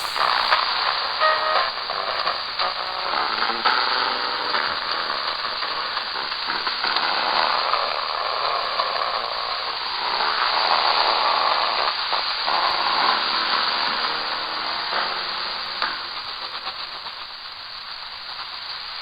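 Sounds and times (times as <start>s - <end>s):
shortwave radio static hiss: 0.0s - 19.0s.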